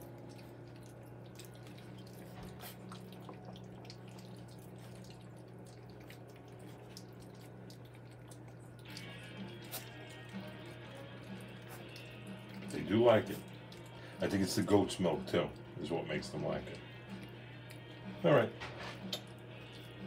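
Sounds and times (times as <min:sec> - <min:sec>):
puppies lapping food: 0:00.0 - 0:20.0.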